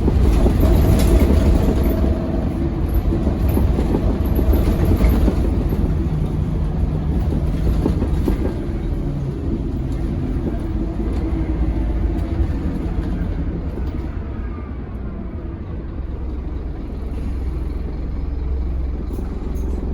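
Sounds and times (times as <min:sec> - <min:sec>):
bus body rattles: 0:00.0 - 0:14.6, 0:15.9 - 0:19.9
diesel bus engine: 0:00.0 - 0:19.9
road rumble: 0:00.0 - 0:19.9.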